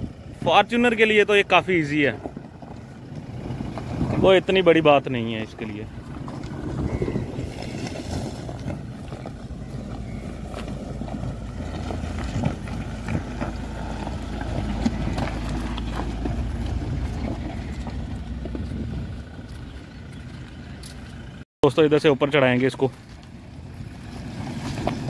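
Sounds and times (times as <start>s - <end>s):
engine running low: 0.0s - 21.4s
tyres crunching on stones: 1.7s - 21.4s, 22.7s - 25.0s.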